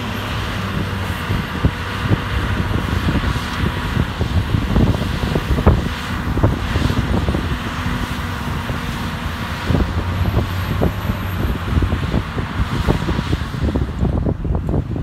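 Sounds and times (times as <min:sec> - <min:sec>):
heavy machinery engine running: 0:00.0 - 0:15.0
wind buffeting microphone: 0:00.0 - 0:15.0.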